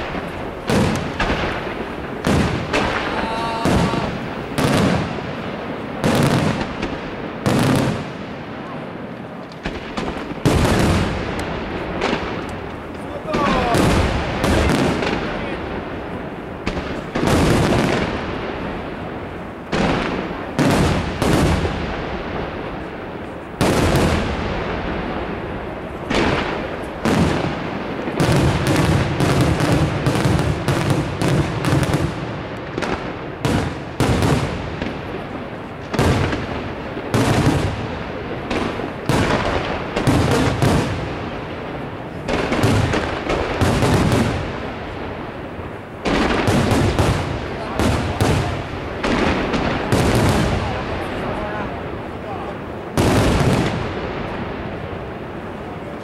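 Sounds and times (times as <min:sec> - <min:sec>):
fireworks bursting with booms: 0:00.0 - 0:56.0.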